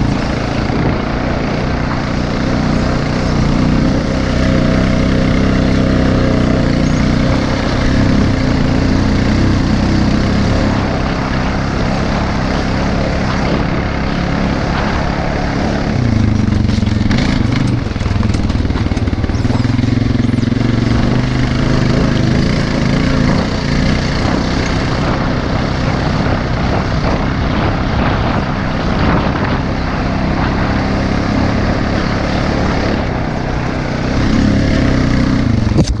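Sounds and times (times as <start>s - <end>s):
quad bike engine running: 0.0s - 36.0s
wind noise on microphone: 0.0s - 36.0s.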